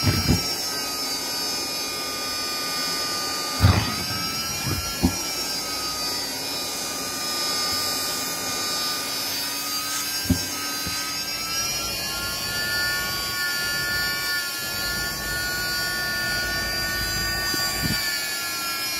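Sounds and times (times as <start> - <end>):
vacuum cleaner whining: 0.0 - 18.9.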